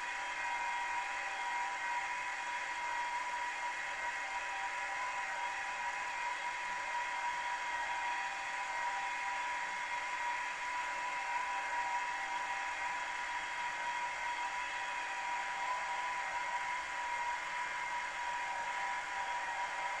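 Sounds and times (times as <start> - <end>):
milling machine spindle whine: 0.0 - 20.0.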